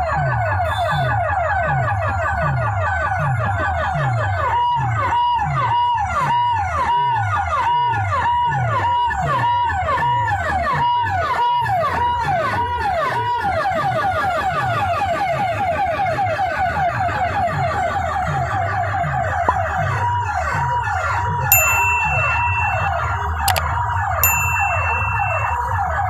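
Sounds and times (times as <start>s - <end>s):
siren effect over loudspeakers: 0.1s - 26.0s.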